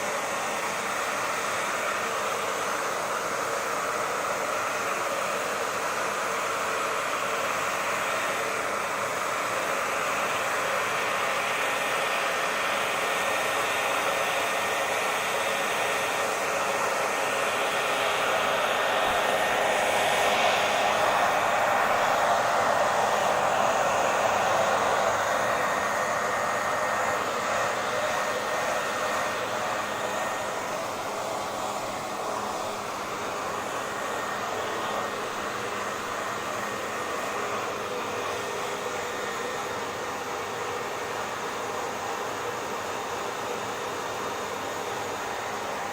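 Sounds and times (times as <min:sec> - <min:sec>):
hair dryer running: 0:00.0 - 0:45.9.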